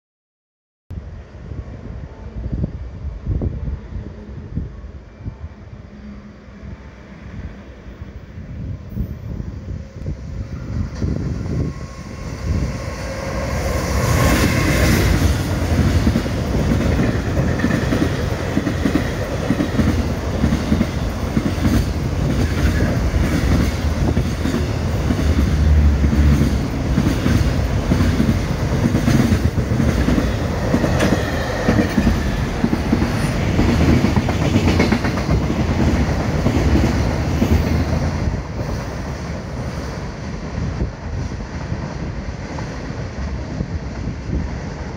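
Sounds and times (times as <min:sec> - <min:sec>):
freight train passing: 0:01.0 - 0:44.9.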